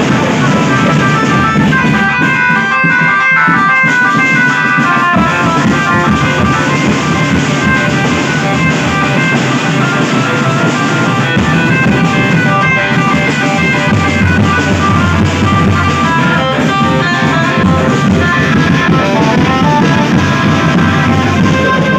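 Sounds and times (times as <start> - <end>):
drum kit steady beat: 0.0 - 21.9
guitar music: 0.0 - 21.9.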